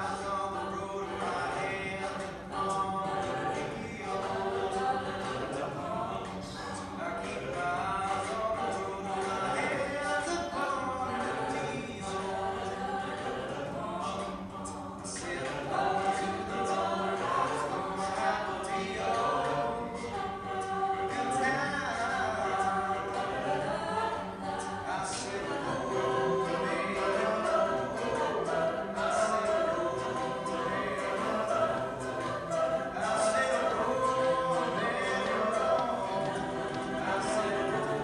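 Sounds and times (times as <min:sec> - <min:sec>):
a cappella group singing: 0:00.0 - 0:38.0.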